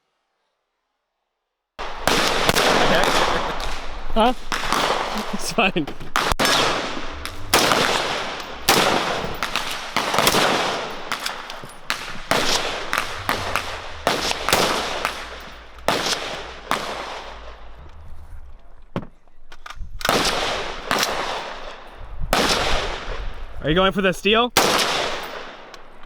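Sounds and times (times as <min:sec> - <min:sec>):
echoing gunshots: 0:01.8 - 0:18.9, 0:19.5 - 0:26.0.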